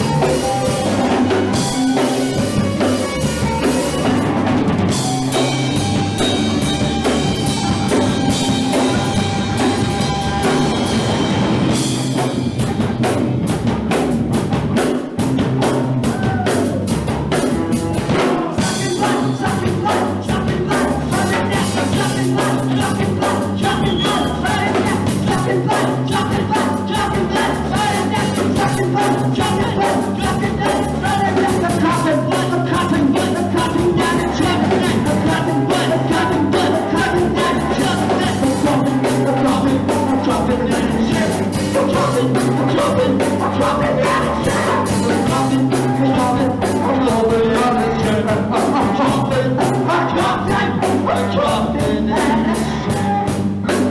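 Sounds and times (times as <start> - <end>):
drum kit beat: 0.0 - 53.9
punk rock band playing live: 0.0 - 53.9.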